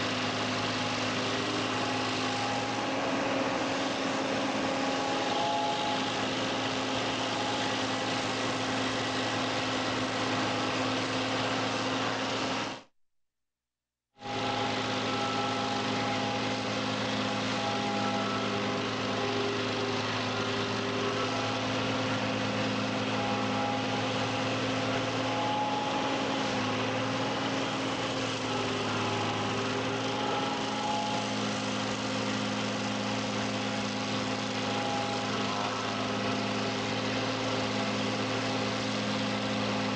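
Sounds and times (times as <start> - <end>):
tractor engine running: 0.0 - 12.9, 14.2 - 39.9.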